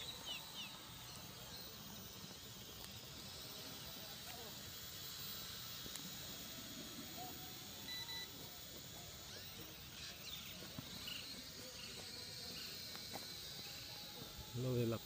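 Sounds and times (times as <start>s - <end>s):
thin steady high tone: 0.0s - 15.0s.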